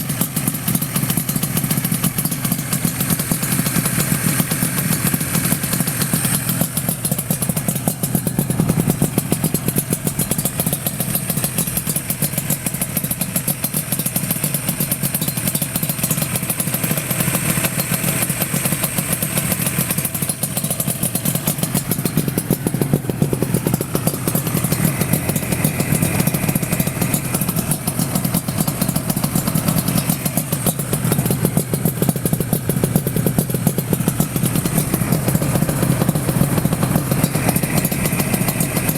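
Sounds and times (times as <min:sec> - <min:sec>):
two-stroke motorcycle idling: 0:00.0 - 0:38.9.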